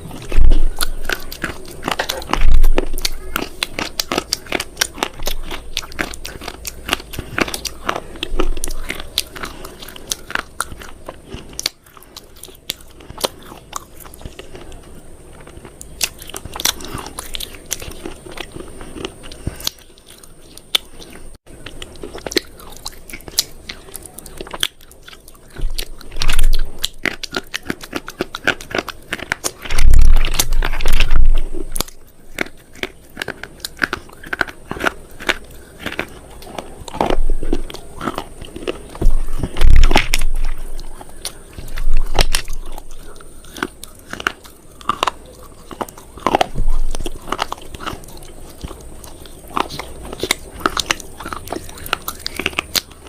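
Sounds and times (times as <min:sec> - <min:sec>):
crunching and chewing: 0:00.0 - 0:53.0.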